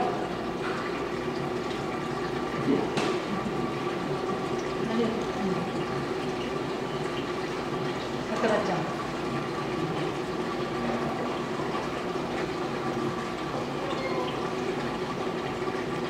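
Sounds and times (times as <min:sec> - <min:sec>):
aquarium water running and bubbling: 0:00.0 - 0:16.0.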